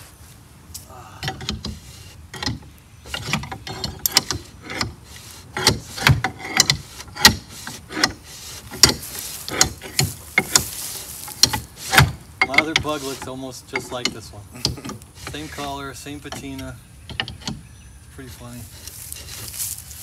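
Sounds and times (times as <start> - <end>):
metallic clicks and clunks: 1.2 - 17.6.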